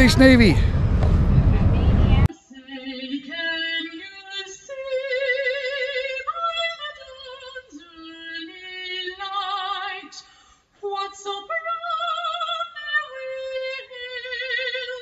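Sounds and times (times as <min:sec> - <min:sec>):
woman singing with vibrato: 0:01.6 - 0:15.0.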